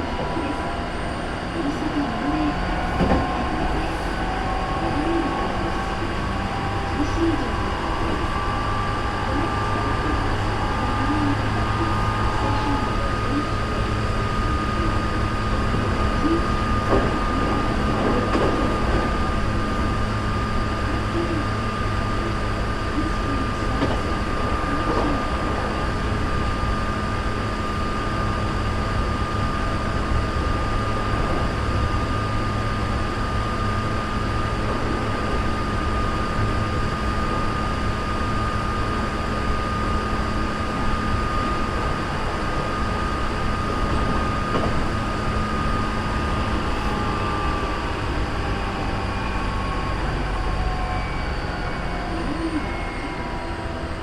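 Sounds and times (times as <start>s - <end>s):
steady high whine: 0.0s - 54.0s
train wheels rumbling on rail: 0.0s - 54.0s.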